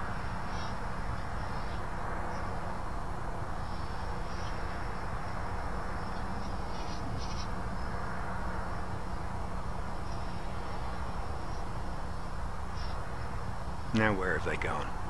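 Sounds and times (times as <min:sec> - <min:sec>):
faint low hum: 0:00.0 - 0:15.0
steady hiss: 0:00.0 - 0:15.0.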